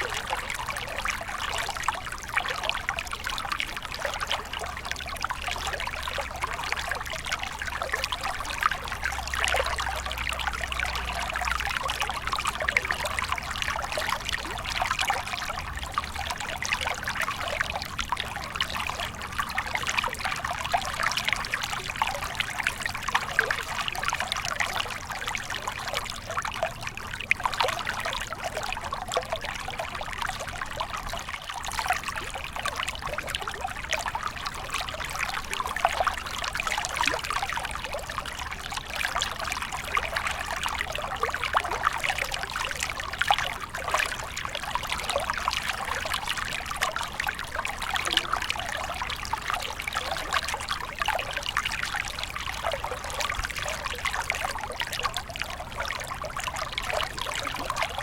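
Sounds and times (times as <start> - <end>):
small stream trickling: 0.0 - 58.0.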